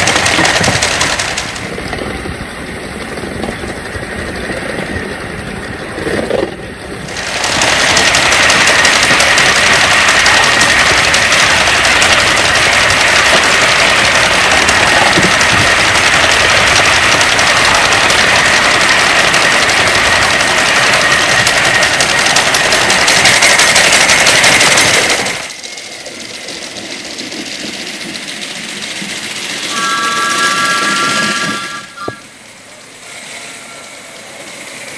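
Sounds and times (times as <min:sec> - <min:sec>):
model steam locomotive hissing and rattling: 0:00.0 - 0:34.9.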